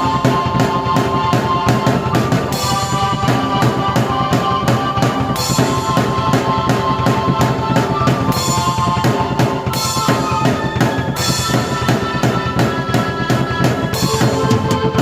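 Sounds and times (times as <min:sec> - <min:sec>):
drum beat: 0:00.0 - 0:15.0
sustained keyboard notes: 0:00.0 - 0:15.0.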